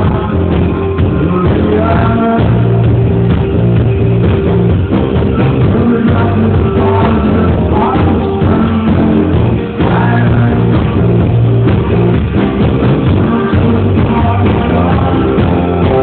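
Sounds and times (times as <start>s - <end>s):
muffled live band with singing: 0.0s - 16.0s.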